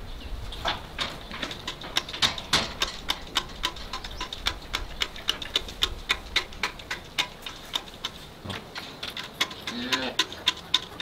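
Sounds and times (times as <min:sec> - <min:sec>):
calf sucking milk from bucket: 0:01.4 - 0:11.0.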